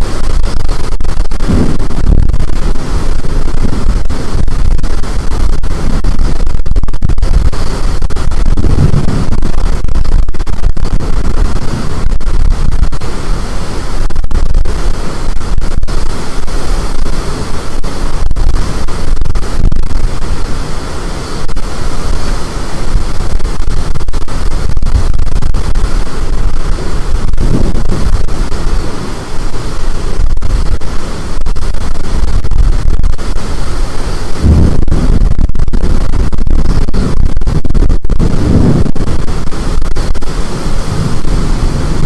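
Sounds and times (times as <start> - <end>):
storm wind buffeting microphone: 0.0 - 42.0.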